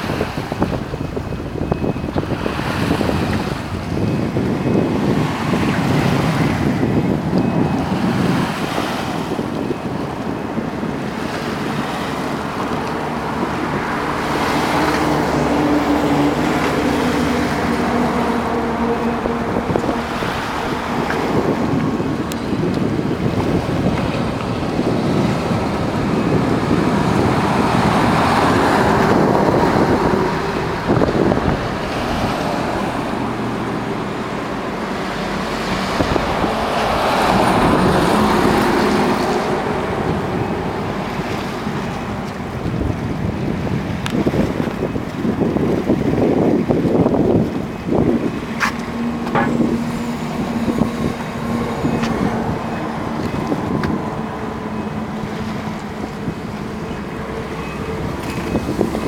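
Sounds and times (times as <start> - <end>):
road traffic: 0.0 - 59.0
wind buffeting microphone: 0.0 - 59.0.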